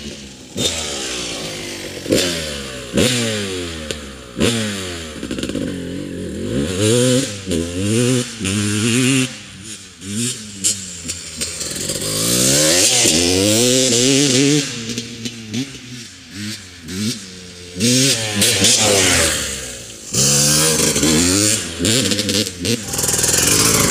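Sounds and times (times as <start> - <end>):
two-stroke motocross engine revving: 0.0 - 23.9.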